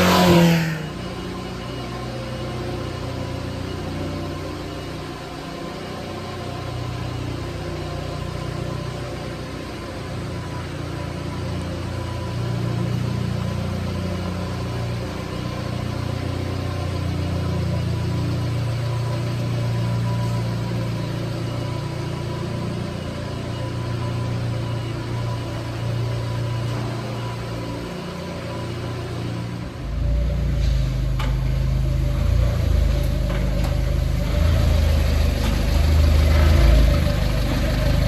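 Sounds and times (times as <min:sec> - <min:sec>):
small truck engine running: 0:00.0 - 0:38.0.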